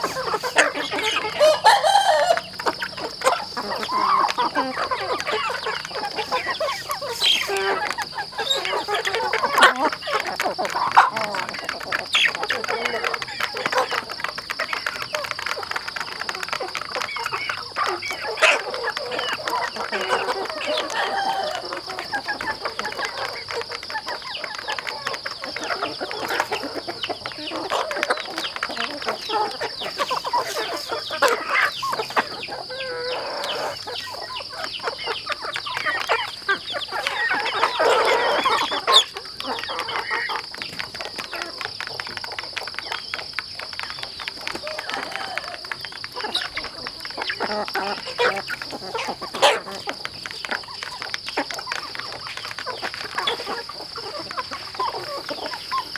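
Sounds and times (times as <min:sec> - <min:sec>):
beaks pecking plastic trough: 0:00.0 - 0:55.9
chickens clucking: 0:00.0 - 0:55.9.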